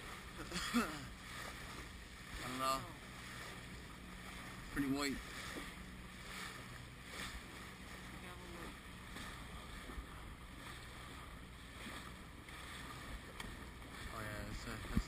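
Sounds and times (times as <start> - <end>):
motorboat engine running: 0.0 - 15.0
wind and water noise: 0.0 - 15.0.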